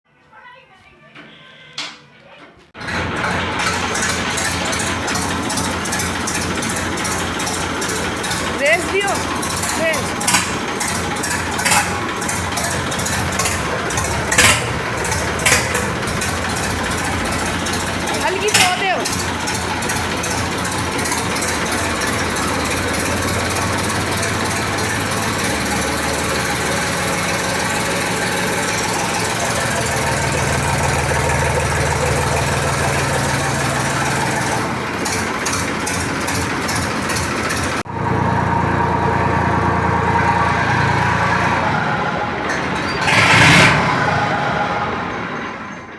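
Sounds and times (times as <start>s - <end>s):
diesel tractor engine running: 2.8s - 45.9s.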